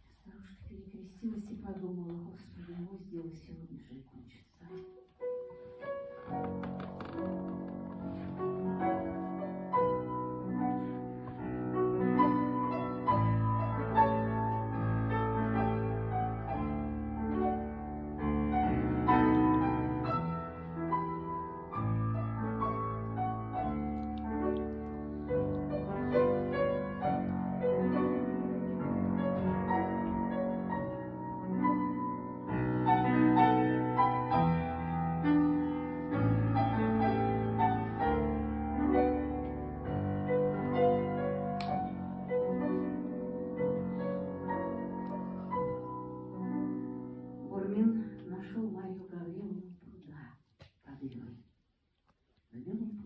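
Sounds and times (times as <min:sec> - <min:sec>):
classical piano music: 0:04.7 - 0:49.4.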